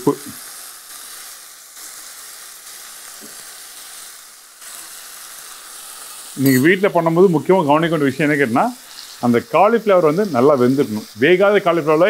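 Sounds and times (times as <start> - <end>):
vegetables frying sizzle: 0.0 - 12.0.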